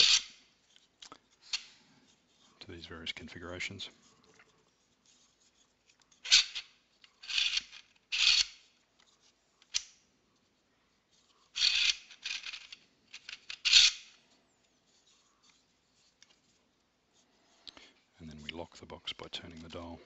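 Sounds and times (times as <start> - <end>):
plastic parts scraping: 0.0 - 10.5, 11.1 - 20.0.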